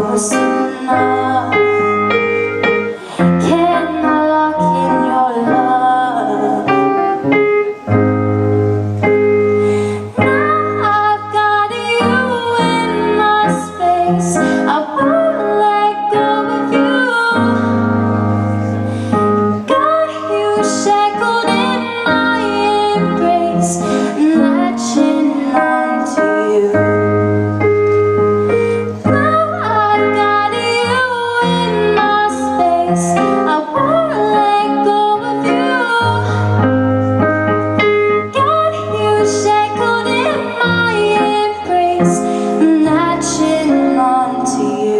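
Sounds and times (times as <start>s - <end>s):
woman singing: 0.0s - 8.0s, 9.8s - 27.7s, 28.5s - 44.9s
piano pop ballad: 0.0s - 44.9s.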